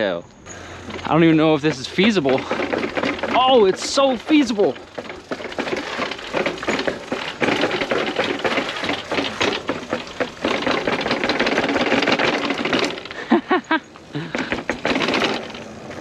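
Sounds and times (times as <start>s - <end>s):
bike rattling over rough ground: 0.5s - 16.0s.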